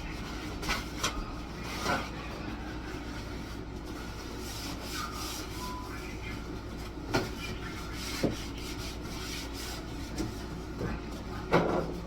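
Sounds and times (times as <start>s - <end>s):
kitchen items handled and wiped: 0.0s - 12.0s.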